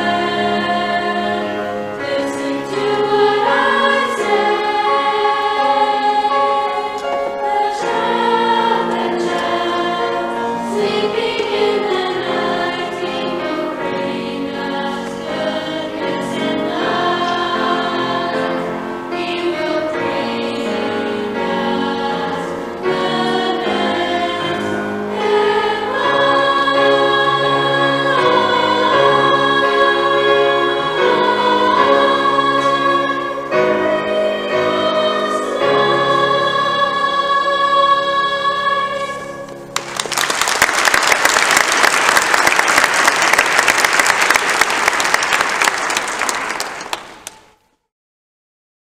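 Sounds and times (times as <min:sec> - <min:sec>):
choir singing christmas music: 0:00.0 - 0:47.4.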